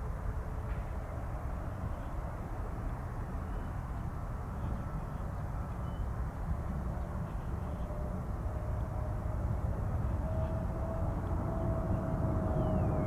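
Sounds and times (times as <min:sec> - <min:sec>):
faint engine whine: 0:00.2 - 0:13.0.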